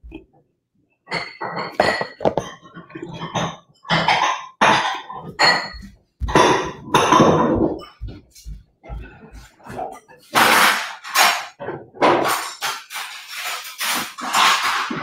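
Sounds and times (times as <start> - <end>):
dishes clinking and knocking: 1.1 - 15.0.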